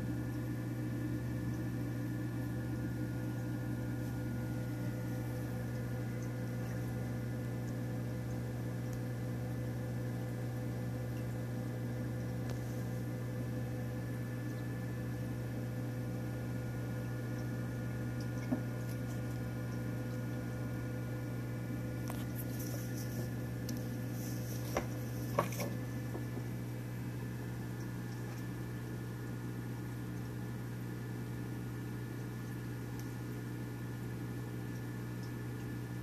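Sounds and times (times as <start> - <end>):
aquarium pumps humming: 0.0 - 36.0.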